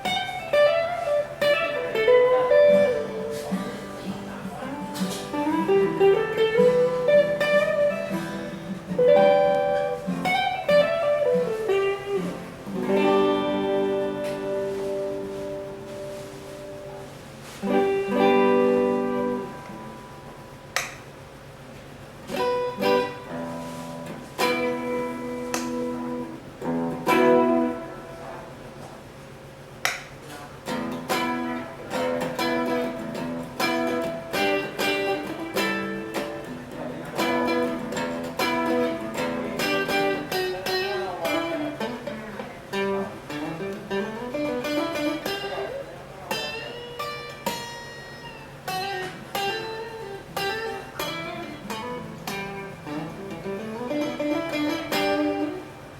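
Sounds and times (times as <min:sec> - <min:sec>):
electric guitar playing: 0:00.0 - 0:21.2, 0:22.2 - 0:29.0, 0:30.6 - 0:55.9.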